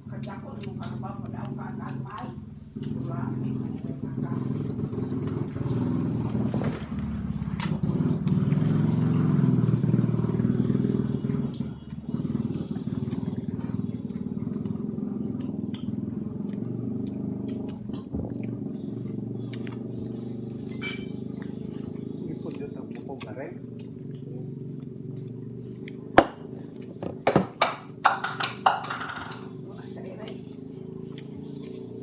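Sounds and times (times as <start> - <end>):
low engine-like drone: 0.0 - 27.0.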